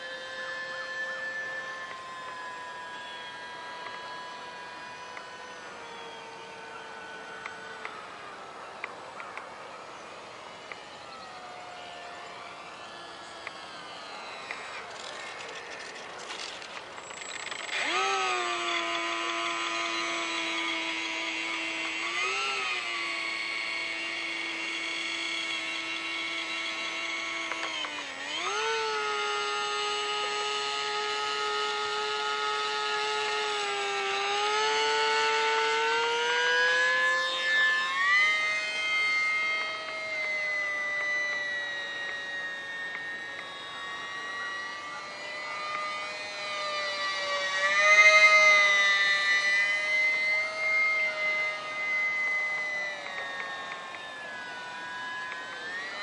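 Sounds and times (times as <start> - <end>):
small electric motor whining: 0.0 - 56.0.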